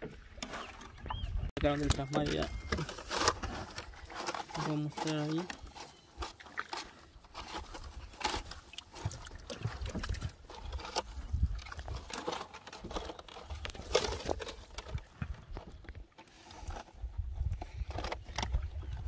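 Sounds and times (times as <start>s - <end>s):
fishing net rustling and knocking: 1.6s - 19.0s.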